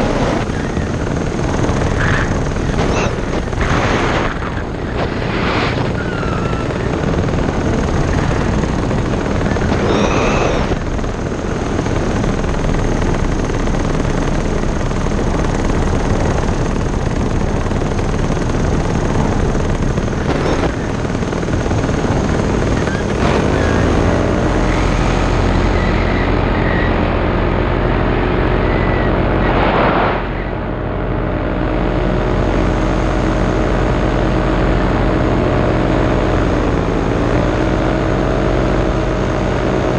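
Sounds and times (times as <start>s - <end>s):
wind rush on microphone: 0.0s - 35.6s
paramotor engine and propeller: 0.0s - 39.9s.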